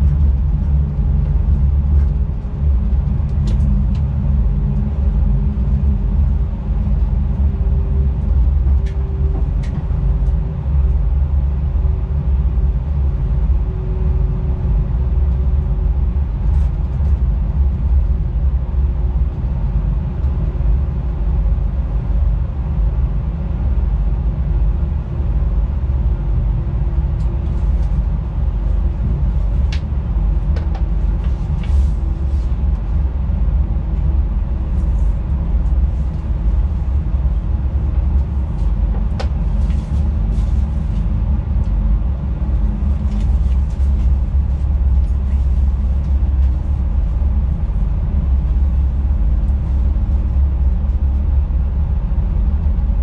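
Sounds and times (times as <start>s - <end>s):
faint hum: 0.0s - 53.0s
locomotive low rumble: 0.0s - 53.0s.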